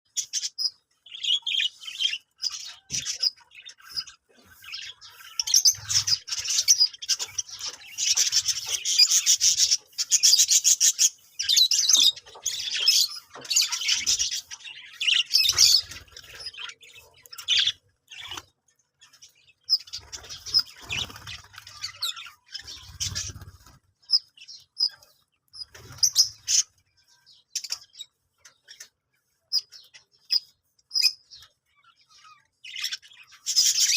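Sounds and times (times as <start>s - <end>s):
budgerigars chirping: 0.2s - 28.9s.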